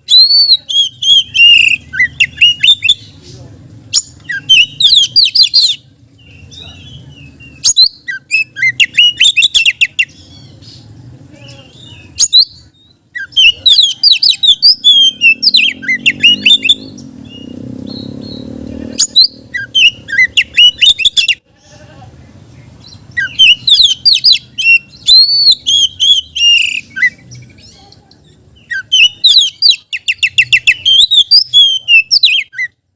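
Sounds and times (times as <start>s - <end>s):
songbird singing whistled phrases: 0.0s - 3.2s, 3.9s - 10.9s, 11.5s - 21.4s, 22.8s - 32.8s.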